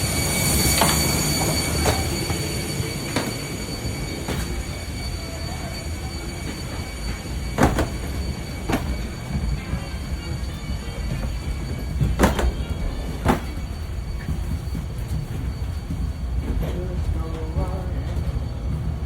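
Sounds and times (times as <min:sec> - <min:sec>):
thin high whining tones: 0:00.0 - 0:18.1
footsteps on jet bridge floor: 0:00.0 - 0:19.0.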